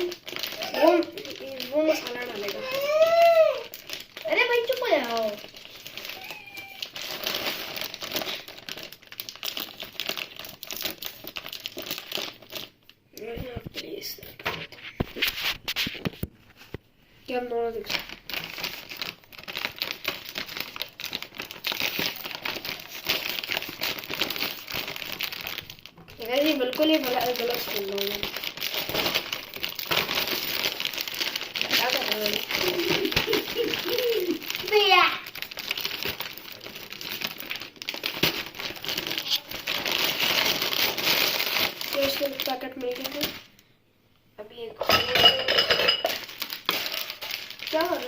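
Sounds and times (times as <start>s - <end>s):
plastic packet crinkling: 0.0s - 16.2s, 17.3s - 43.6s, 45.0s - 48.0s.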